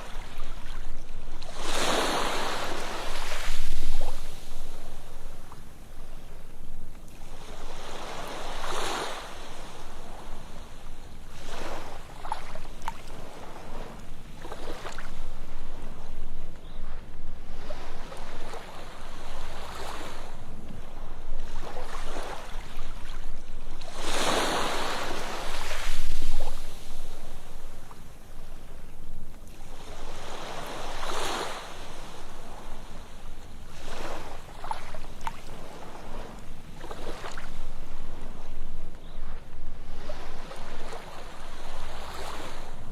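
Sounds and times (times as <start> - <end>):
waves breaking on a beach: 0.0 - 42.9.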